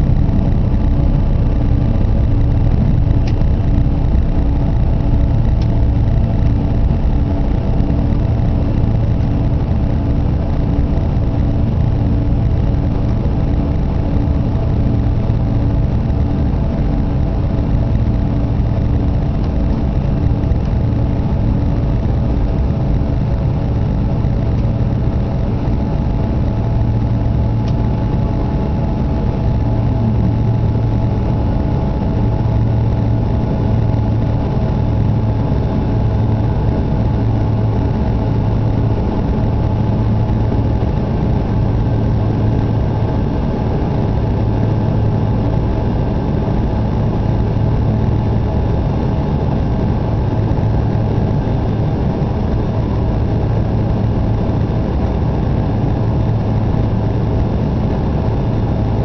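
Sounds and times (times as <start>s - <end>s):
deep hum: 0.0s - 59.0s
jet engine and airflow drone: 0.0s - 59.0s.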